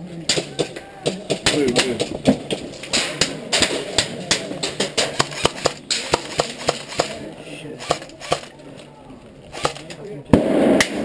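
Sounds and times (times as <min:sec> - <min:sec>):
airsoft guns firing: 0:00.3 - 0:08.6, 0:09.5 - 0:11.0.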